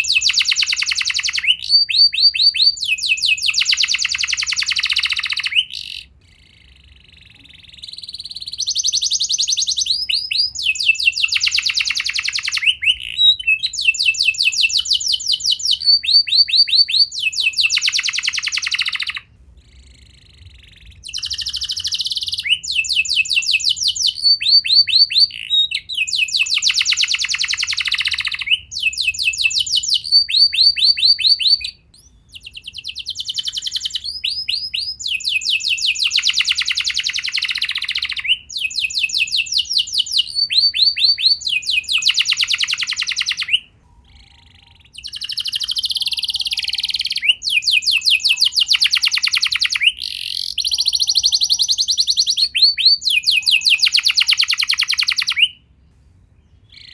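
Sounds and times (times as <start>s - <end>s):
canary singing trills: 0.0s - 55.8s, 56.4s - 56.9s.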